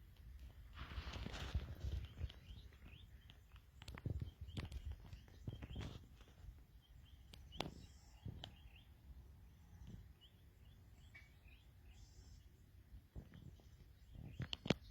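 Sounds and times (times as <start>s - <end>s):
bird chirps: 1.3s - 14.9s.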